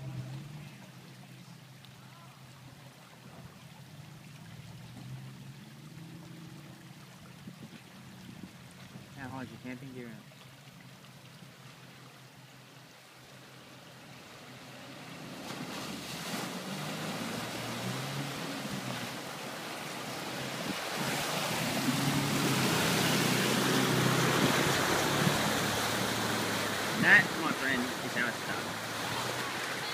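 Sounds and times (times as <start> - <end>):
water surging and splashing: 0.0 - 29.9.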